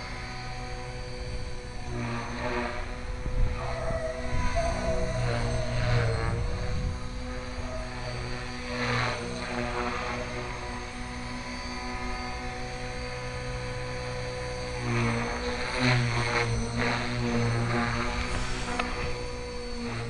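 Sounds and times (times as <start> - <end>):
helicopter rotor whine: 0.0 - 20.0.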